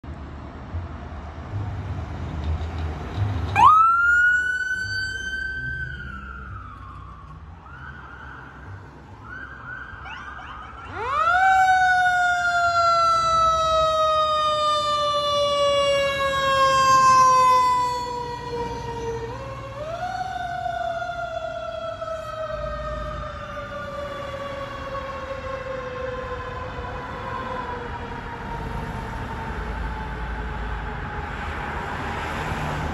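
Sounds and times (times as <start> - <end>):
fire engine siren wailing: 3.5 - 32.9.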